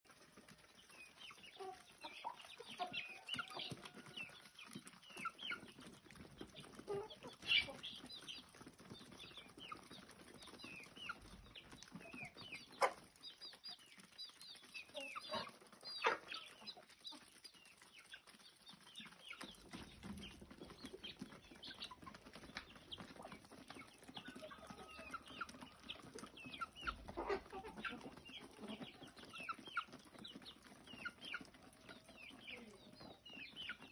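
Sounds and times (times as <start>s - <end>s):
chickens clucking and calling: 0.0s - 33.9s.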